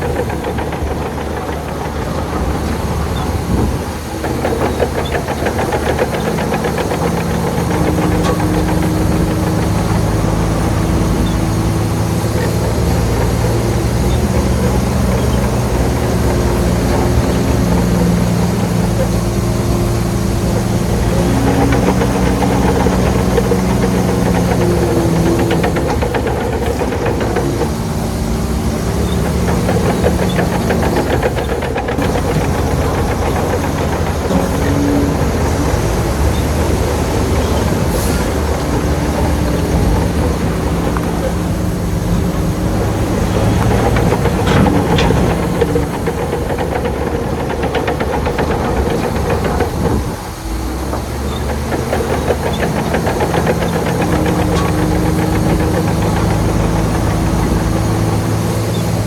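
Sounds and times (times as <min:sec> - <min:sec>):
heavy diesel engine chugging: 0:00.0 - 0:59.0.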